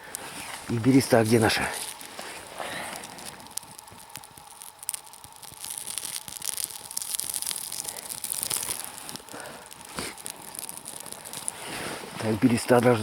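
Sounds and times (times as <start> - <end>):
bark tearing and crackling: 0.1 - 12.4.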